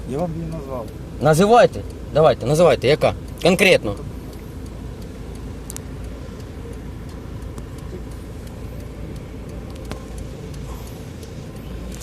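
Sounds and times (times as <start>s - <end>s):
low motor vehicle rumble: 0.0s - 12.0s.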